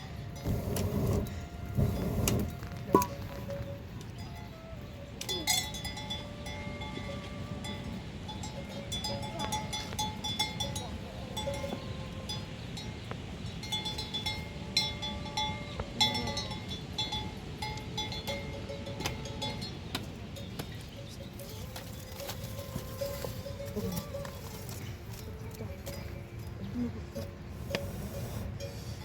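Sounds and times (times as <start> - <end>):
metal livestock bell clanking: 0.4 - 4.4, 5.3 - 12.9, 13.6 - 29.0.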